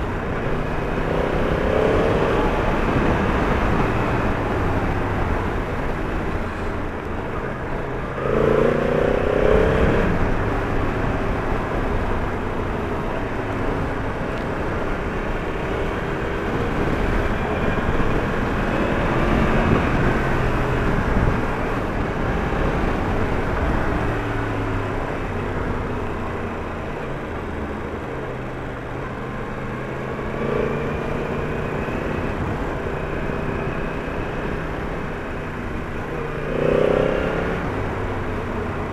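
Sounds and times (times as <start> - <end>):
motorcycle engine revving: 0.0 - 6.5, 7.9 - 26.8, 29.0 - 38.9
wind noise: 0.0 - 28.0, 28.8 - 38.9.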